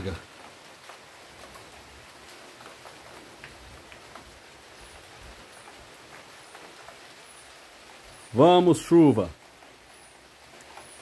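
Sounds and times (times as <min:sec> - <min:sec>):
light rain hiss: 0:00.0 - 0:11.0
raindrops ticking: 0:00.0 - 0:11.0.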